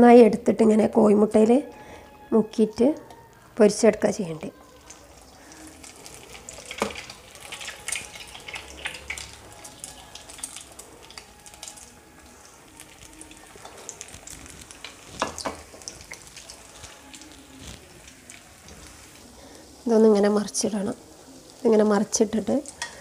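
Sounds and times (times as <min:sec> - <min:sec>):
bread deep-frying in oil: 0:04.5 - 0:23.0.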